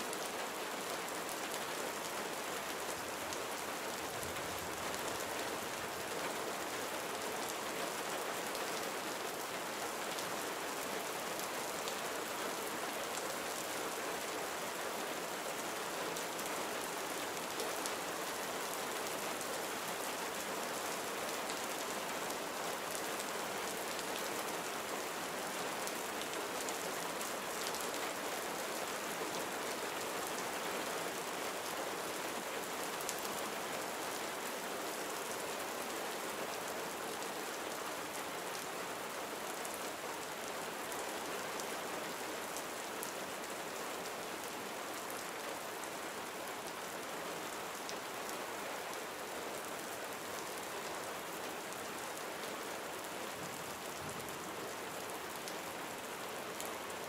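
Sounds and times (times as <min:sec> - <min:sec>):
gentle rain patter: 0:00.0 - 0:57.0.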